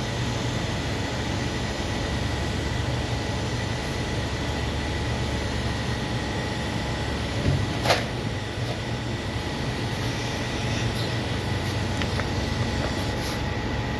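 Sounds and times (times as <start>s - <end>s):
low machine hum: 0.0s - 13.9s.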